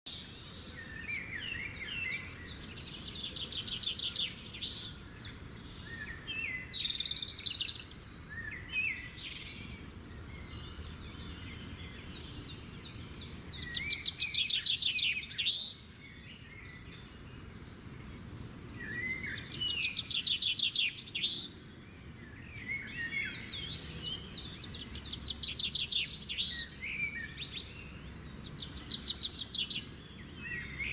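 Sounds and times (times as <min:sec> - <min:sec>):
birds singing and chirping: 0:00.1 - 0:30.9.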